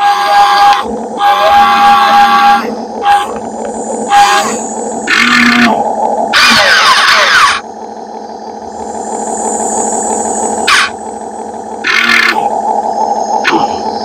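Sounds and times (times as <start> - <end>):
excavator machinery drone: 0.0 - 14.0
thin high whine: 0.0 - 14.0.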